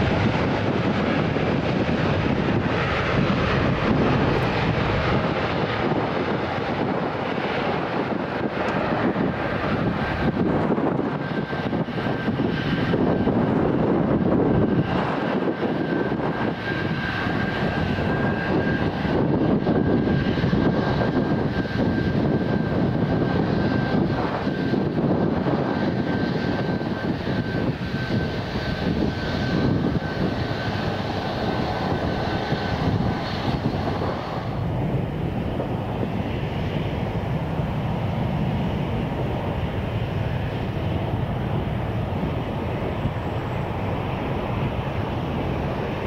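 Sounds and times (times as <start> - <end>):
high jet engine whine: 0.0 - 46.0
jet engine rumble: 0.0 - 46.0.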